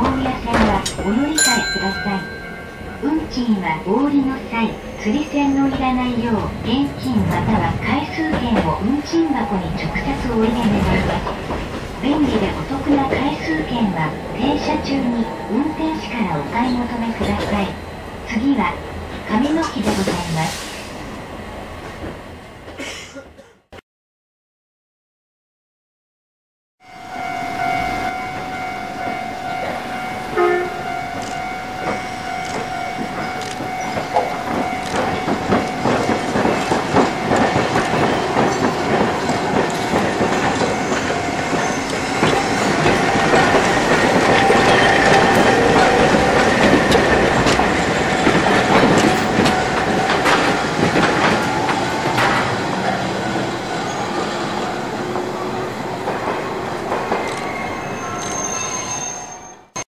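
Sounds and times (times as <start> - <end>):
tram wheels clacking over crossing: 0.0 - 20.4, 27.2 - 59.1.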